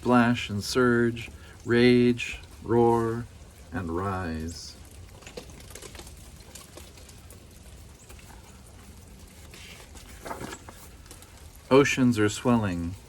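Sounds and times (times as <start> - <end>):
raindrop ticks: 0.0 - 10.0, 10.6 - 13.0
rain pattering: 0.0 - 13.0.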